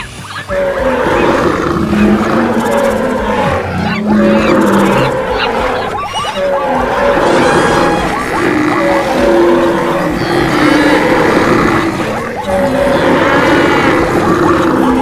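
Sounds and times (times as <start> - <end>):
animal calls and roars: 0.0 - 15.0.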